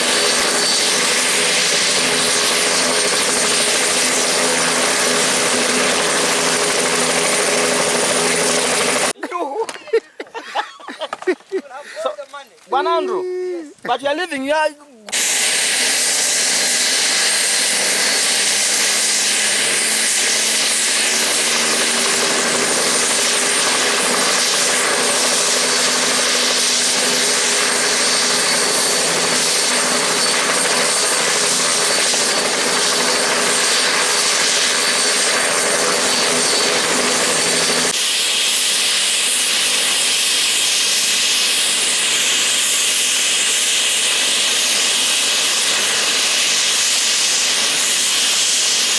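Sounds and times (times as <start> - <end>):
helicopter rotor and engine rushing: 0.0 - 9.2, 15.1 - 48.9.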